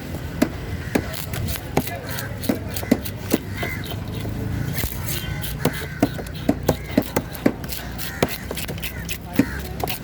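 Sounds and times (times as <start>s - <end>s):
market chatter: 0.0s - 10.0s
knife chopping fish: 0.3s - 10.0s.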